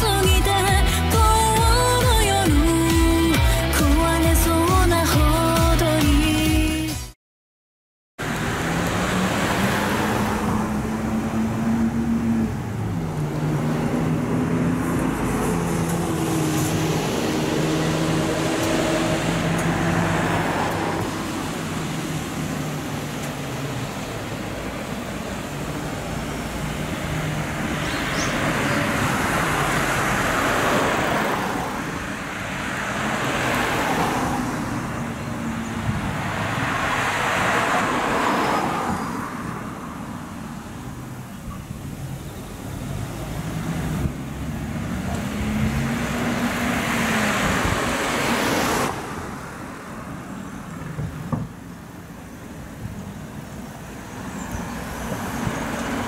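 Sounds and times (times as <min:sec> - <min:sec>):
cars passing by: 0:00.0 - 0:07.0, 0:08.2 - 0:56.0.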